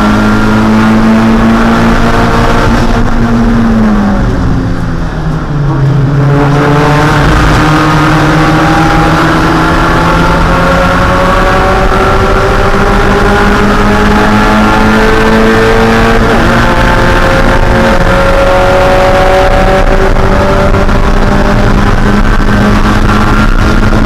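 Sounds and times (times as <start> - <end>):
race car engine revving high: 0.0 - 24.0.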